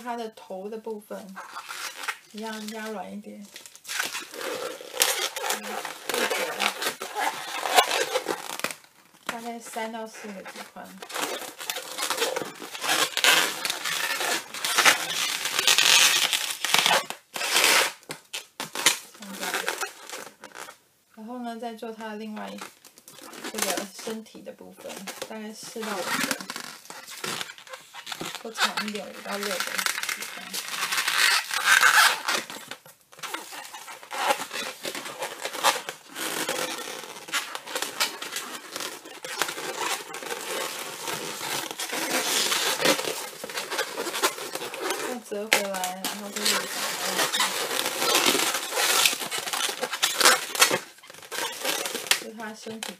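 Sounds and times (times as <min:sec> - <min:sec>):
latex balloon rubbing: 0:01.1 - 0:20.8, 0:22.4 - 0:52.2.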